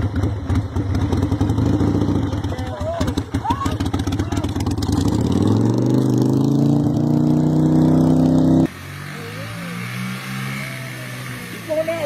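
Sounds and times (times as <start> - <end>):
minibike engine revving: 0.0 - 12.0.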